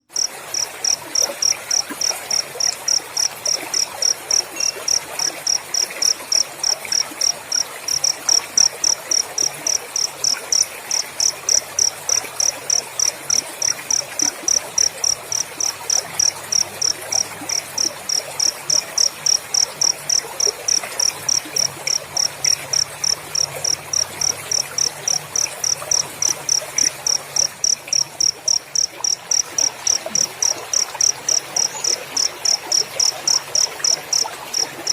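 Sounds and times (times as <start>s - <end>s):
cricket chirping: 0.0s - 34.9s.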